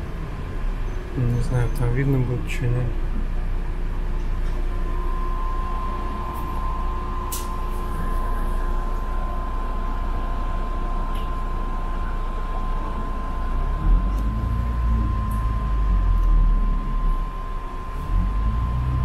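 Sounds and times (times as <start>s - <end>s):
bus engine rumble inside cabin: 0.0s - 19.0s
thin steady whine: 0.0s - 19.0s.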